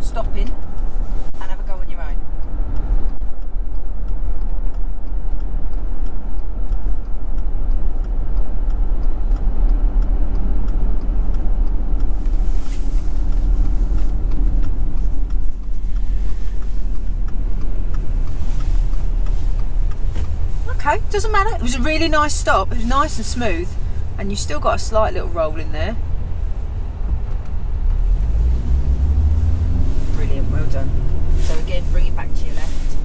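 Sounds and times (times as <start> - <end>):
engine and road rumble: 0.0 - 33.0
faint regular ticking: 0.0 - 33.0.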